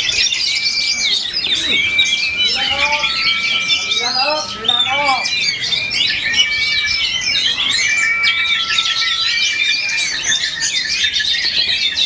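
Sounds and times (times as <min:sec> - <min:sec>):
birds singing whistles and chirps: 0:00.0 - 0:12.0.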